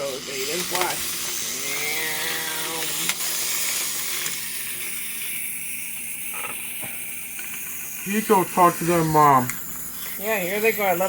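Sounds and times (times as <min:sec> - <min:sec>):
clockwork toy motor whirring: 0:00.0 - 0:11.0.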